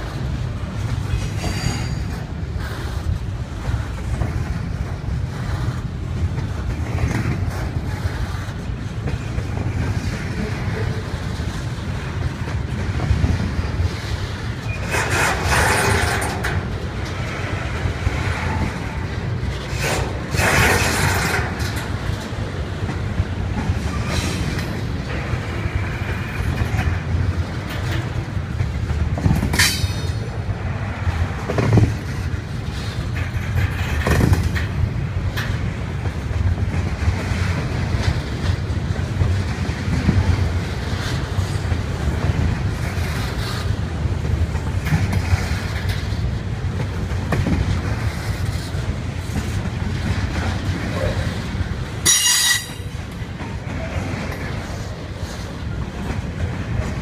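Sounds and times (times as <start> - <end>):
steel wheels rumbling on rail: 0.0 - 57.0
train clanks and clicks: 0.0 - 57.0.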